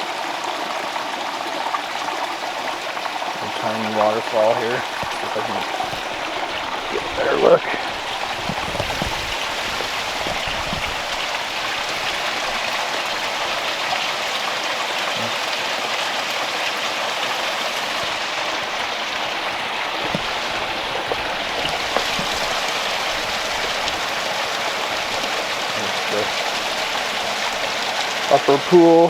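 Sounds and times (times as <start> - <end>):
stream splashing over rocks: 0.0 - 29.0.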